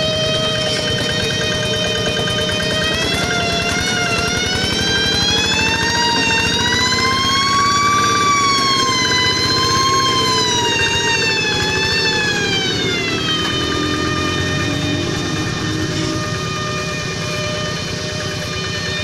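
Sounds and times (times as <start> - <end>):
high whine rising and falling: 0.0 - 19.0
tractor engine pulsing: 0.0 - 19.0.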